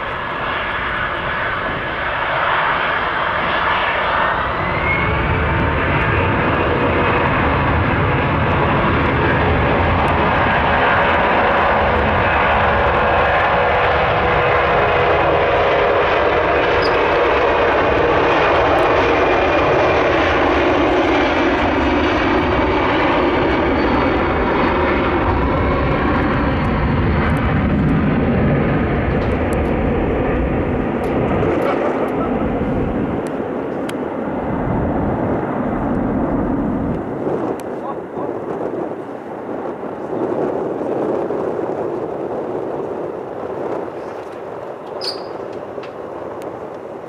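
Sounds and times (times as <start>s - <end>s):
loud jet engine noise: 0.0s - 47.0s.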